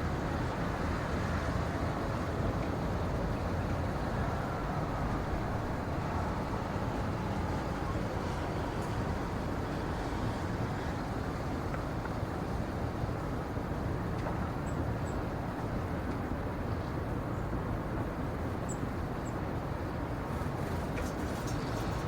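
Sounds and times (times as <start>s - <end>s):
low rushing outdoor ambience: 0.0s - 22.0s.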